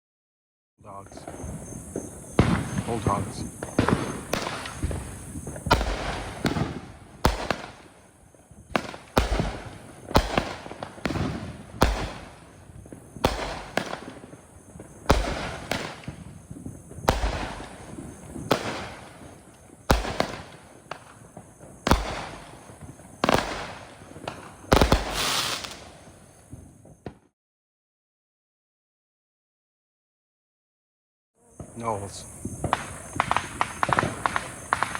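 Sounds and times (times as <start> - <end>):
firework bangs: 0.8 - 27.3, 31.6 - 34.9.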